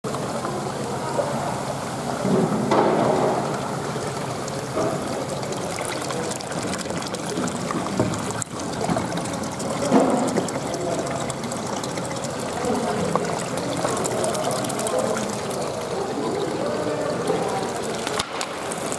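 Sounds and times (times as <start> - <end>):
water churning and bubbling: 0.1 - 18.9
water splashing: 0.1 - 18.9.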